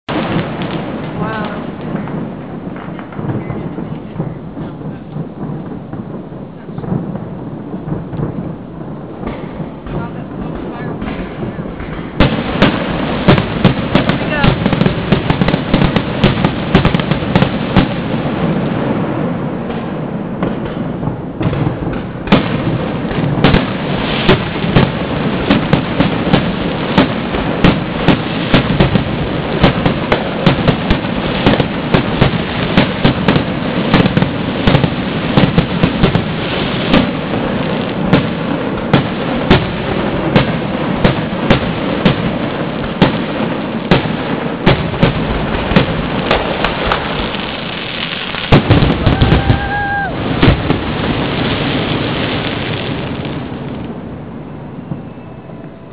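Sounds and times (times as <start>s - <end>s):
fireworks bursting: 0.0s - 55.9s.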